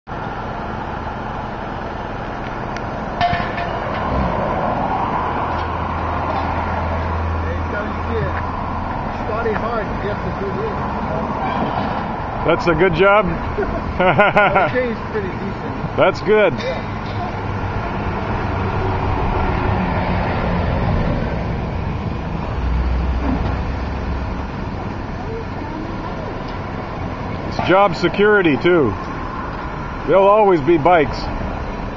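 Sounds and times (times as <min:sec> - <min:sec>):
low engine hum: 0:00.1 - 0:31.9
street noise rushing: 0:00.1 - 0:31.9
vehicle passing with low rumble: 0:00.1 - 0:31.9.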